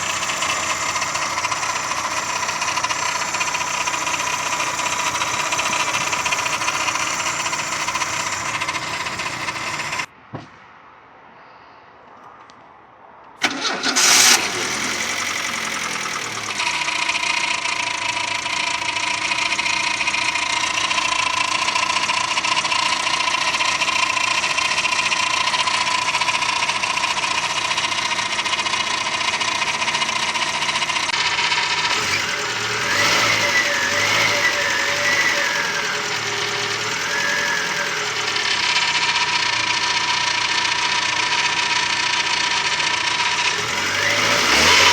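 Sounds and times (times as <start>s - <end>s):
car engine starting and idling: 0.0s - 10.1s, 13.4s - 44.9s.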